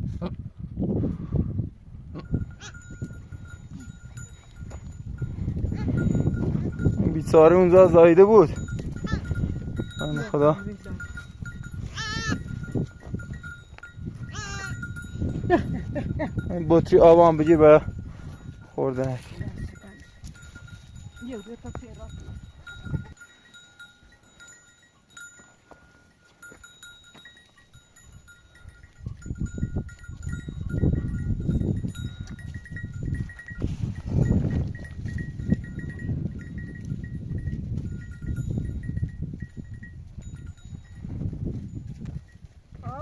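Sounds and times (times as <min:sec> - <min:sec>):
livestock bells ringing: 0:02.2 - 0:43.0.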